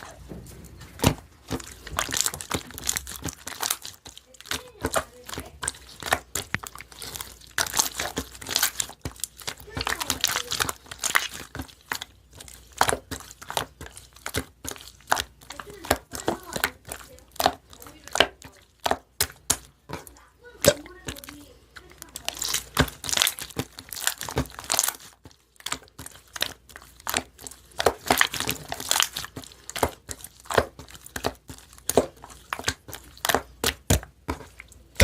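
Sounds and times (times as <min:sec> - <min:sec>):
slime popping and crackling: 0:01.0 - 0:35.0.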